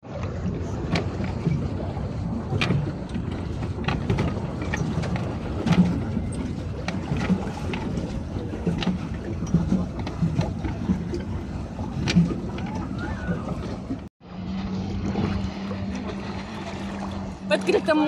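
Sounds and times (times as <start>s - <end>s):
water sloshing around boat: 0.0s - 18.0s.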